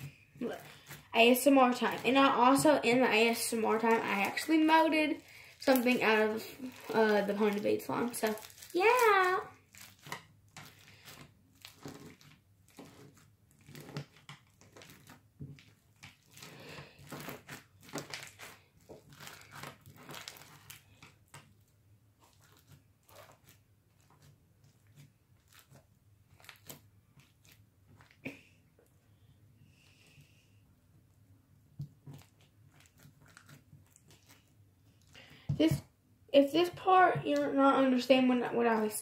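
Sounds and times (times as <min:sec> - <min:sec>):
slime with beads crunching: 0:00.0 - 0:28.3, 0:31.9 - 0:35.8.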